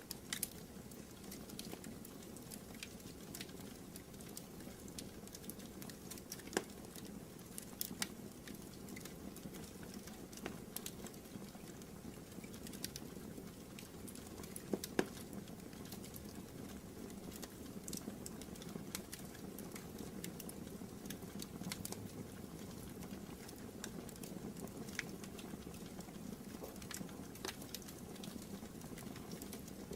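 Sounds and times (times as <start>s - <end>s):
low rumble of fire flames: 0.0s - 29.9s
wood fire crackling and popping: 0.0s - 29.9s.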